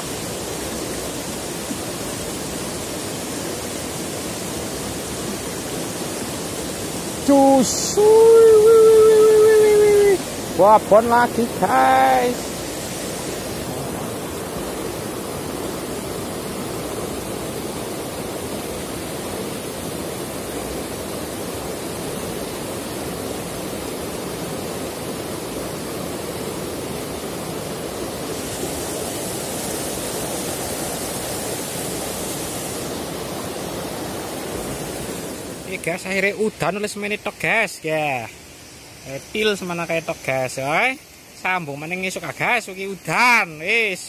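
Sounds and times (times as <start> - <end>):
river rushing over stones: 0.0 - 44.0.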